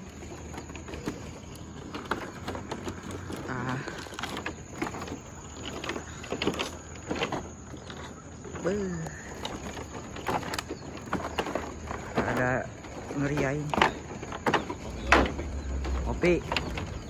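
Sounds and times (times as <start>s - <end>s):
bamboo creak: 0.0s - 17.0s
bamboo poles clacking under footsteps: 0.0s - 17.0s.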